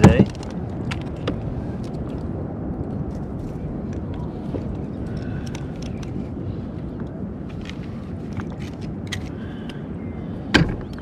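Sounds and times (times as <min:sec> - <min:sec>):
water on open ocean: 0:00.0 - 0:11.0
wind: 0:00.0 - 0:11.0.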